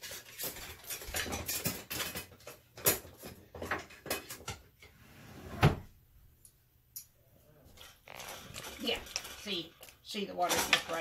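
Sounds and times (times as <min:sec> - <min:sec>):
drawer and cupboard rummaging clatter: 0:00.0 - 0:05.9, 0:07.8 - 0:11.0.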